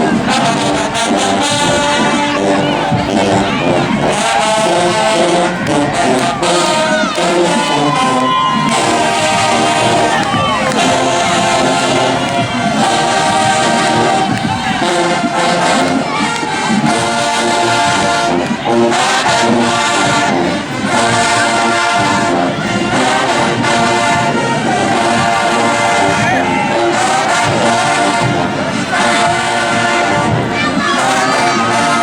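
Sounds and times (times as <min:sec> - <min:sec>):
brass section: 0:00.0 - 0:32.0
crowd noise: 0:00.0 - 0:32.0
marching band playing: 0:00.0 - 0:32.0.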